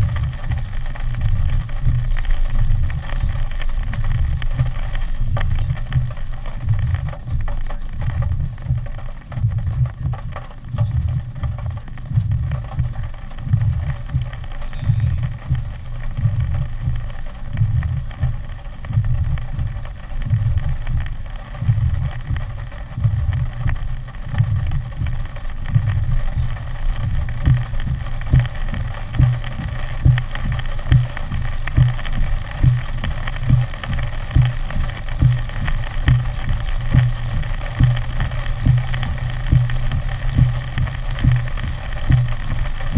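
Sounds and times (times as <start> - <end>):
steady rushing hiss: 0.0 - 42.9
storm wind buffeting microphone: 0.0 - 42.9.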